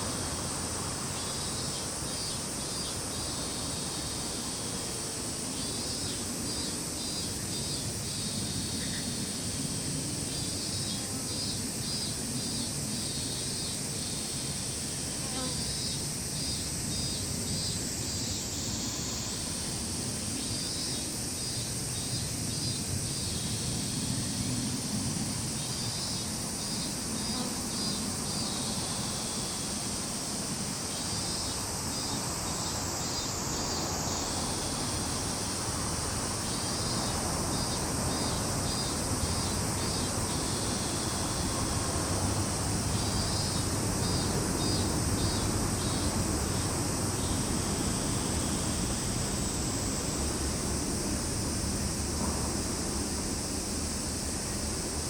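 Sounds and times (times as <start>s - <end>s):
crickets chirping: 0.0s - 55.0s
high-pitched insect drone: 0.0s - 55.0s.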